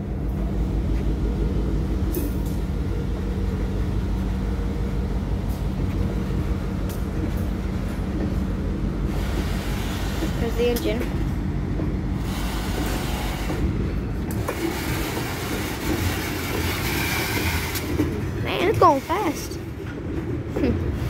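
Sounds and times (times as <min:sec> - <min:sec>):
freight car wheels rumbling: 0:00.0 - 0:21.0.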